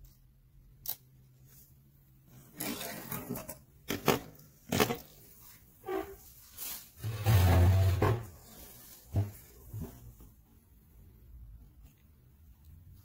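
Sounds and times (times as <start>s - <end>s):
rustling handling noise: 1.3s - 13.0s.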